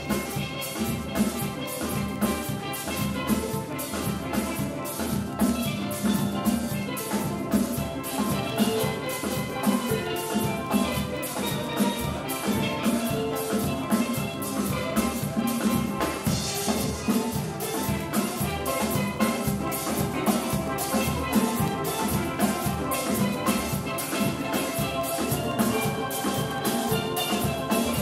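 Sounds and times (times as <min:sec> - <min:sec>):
drum kit beat: 0:00.0 - 0:28.0
steel pans playing melody: 0:00.0 - 0:28.0.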